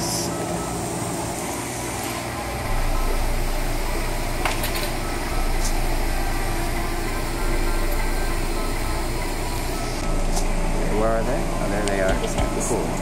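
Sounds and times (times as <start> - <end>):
aquarium hum and hiss: 0.0 - 13.0.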